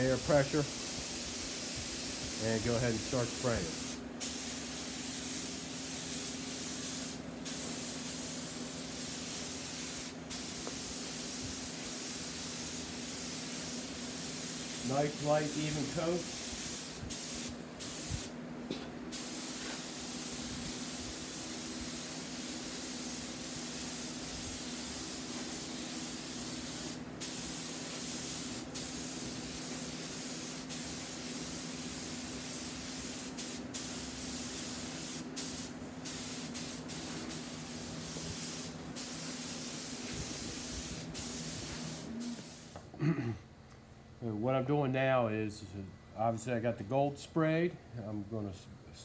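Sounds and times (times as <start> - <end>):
spray gun hissing: 0.0 - 18.4, 19.1 - 42.8.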